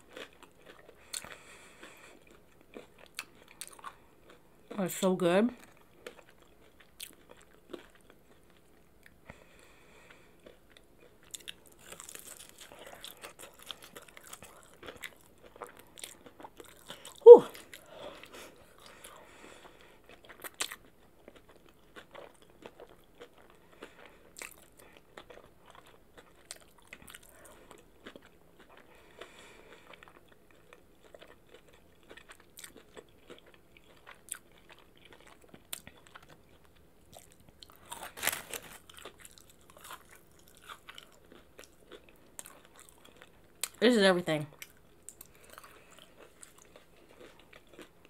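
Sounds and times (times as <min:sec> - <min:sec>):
person chewing crunchy food: 0:00.0 - 0:04.8, 0:05.6 - 0:43.8, 0:44.5 - 0:48.0.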